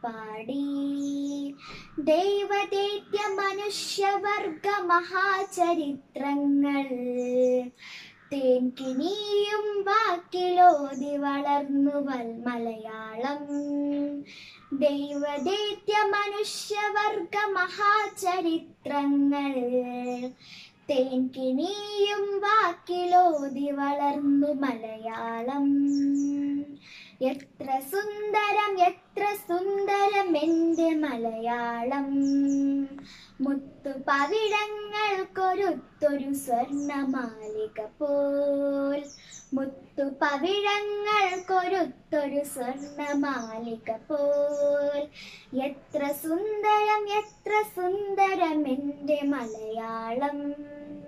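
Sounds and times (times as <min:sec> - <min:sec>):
girl singing: 0:00.0 - 0:51.0.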